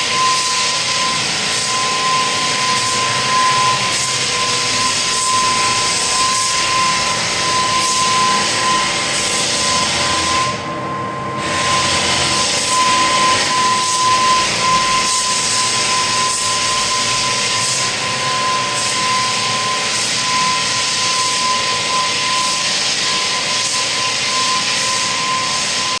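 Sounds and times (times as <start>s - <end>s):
floor sanding machine whining: 0.0s - 26.0s.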